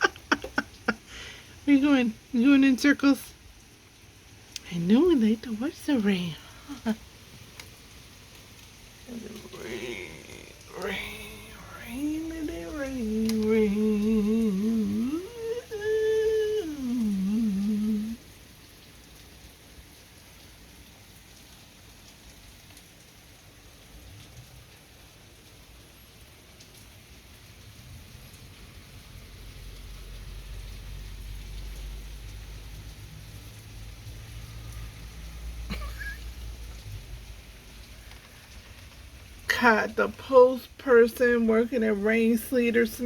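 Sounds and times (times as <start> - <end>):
steady rain falling: 0.0 - 43.0
vehicle passing in rain: 0.0 - 43.0.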